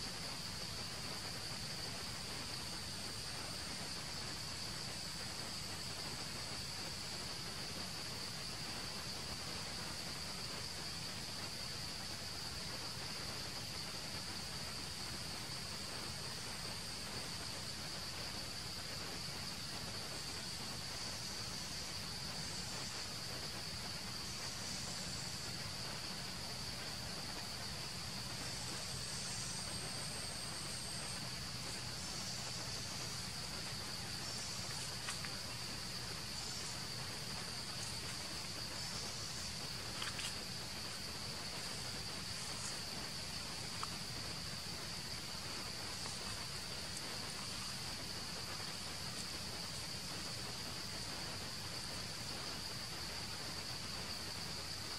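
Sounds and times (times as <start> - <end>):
insects droning: 0.0 - 54.9.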